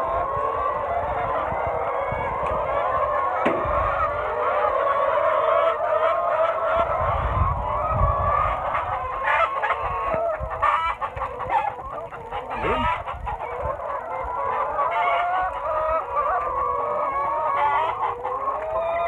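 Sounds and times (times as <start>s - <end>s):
hens clucking and calling: 0.0s - 19.0s.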